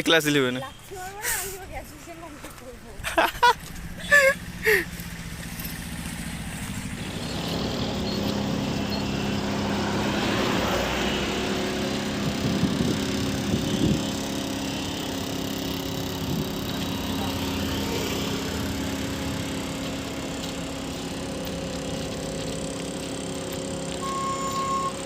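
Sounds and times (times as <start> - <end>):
vehicle engine running: 0.7 - 25.0.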